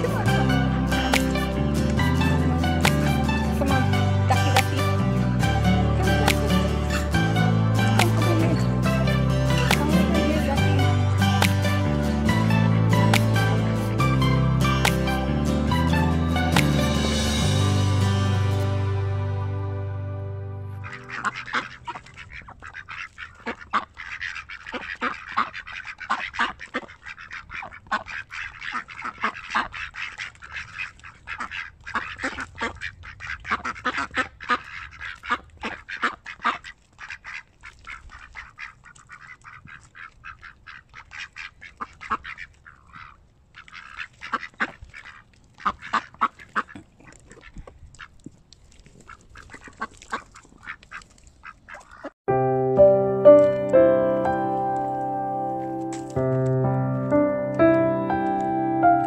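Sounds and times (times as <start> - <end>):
ducks quacking: 0.0 - 17.4, 20.7 - 48.1, 49.0 - 52.2.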